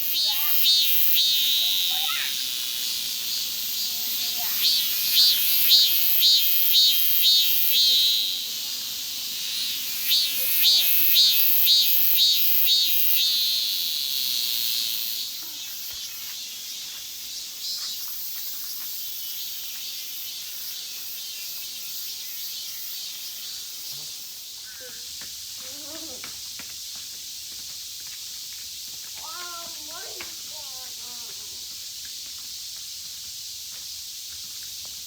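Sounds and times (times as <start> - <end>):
cicadas singing: 0.0 - 35.0.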